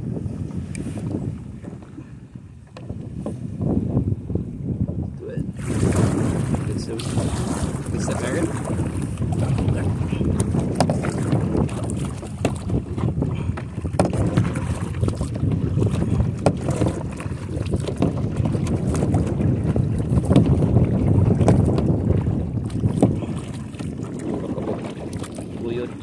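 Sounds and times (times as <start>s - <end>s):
wind rumbling on microphone: 0.0s - 26.0s
paddle clicks and splashes: 0.6s - 3.4s, 5.4s - 26.0s.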